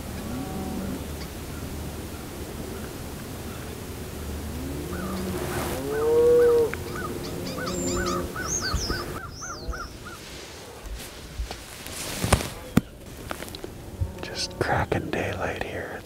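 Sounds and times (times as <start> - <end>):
wild birds calling: 0.0 - 15.6.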